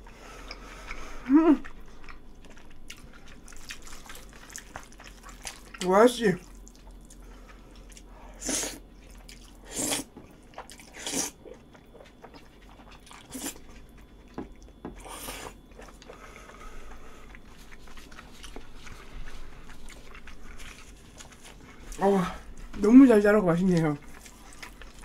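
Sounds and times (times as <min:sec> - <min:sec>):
chewing: 0:00.0 - 0:25.0.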